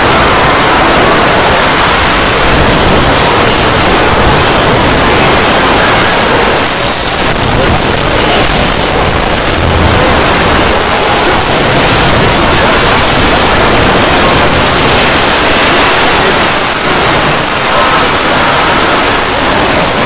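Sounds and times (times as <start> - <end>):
loud distorted noise: 0.0 - 20.0.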